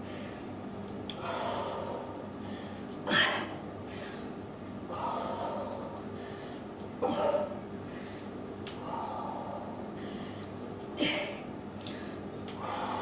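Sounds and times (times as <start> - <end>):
woman breathing with effort: 0.0 - 13.0.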